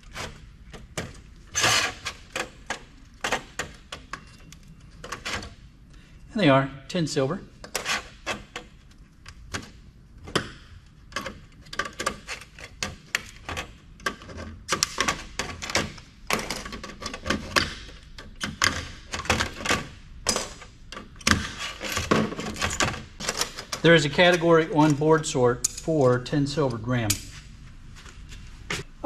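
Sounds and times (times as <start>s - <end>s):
computer parts clicking and knocking: 0.1s - 5.6s, 7.6s - 27.2s.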